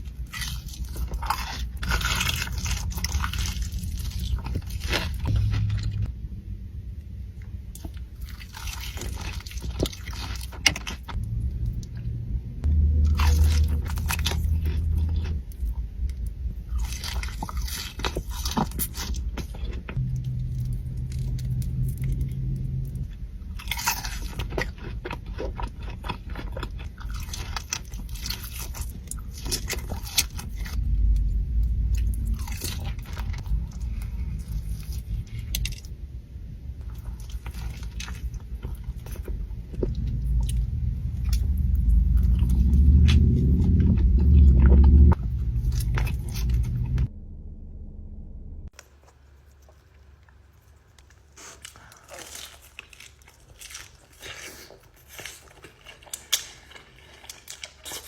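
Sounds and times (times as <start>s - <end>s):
crunchy bites and chewing: 0.0s - 6.1s, 7.4s - 12.0s, 12.6s - 36.0s, 36.8s - 47.1s, 48.7s - 58.0s
heavy low rumble: 0.0s - 48.8s.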